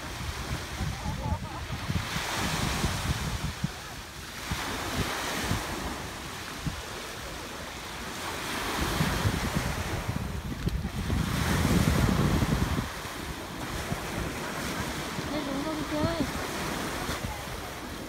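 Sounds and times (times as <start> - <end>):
small waves breaking on sand: 0.0 - 18.0
wind rumbling on microphone: 0.0 - 18.0.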